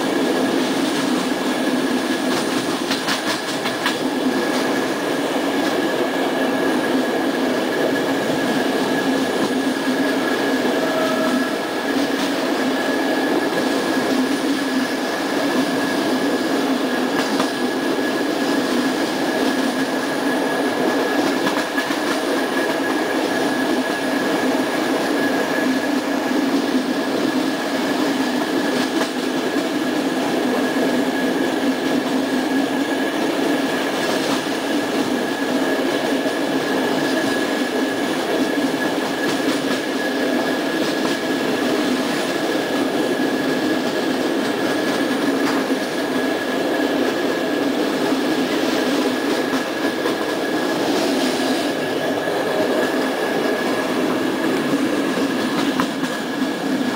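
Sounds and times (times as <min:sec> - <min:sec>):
train wheels on rails: 0:00.0 - 0:56.9.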